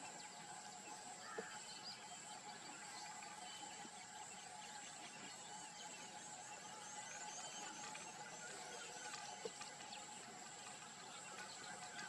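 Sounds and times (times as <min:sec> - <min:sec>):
insect drone: 0:00.1 - 0:12.0.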